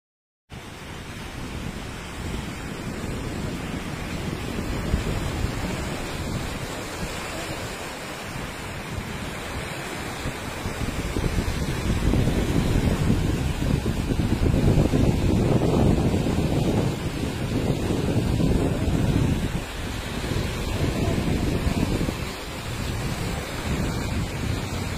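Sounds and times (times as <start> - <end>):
floodwater rushing down stream: 0.5 - 24.9
wind rumbling on microphone: 0.5 - 24.9.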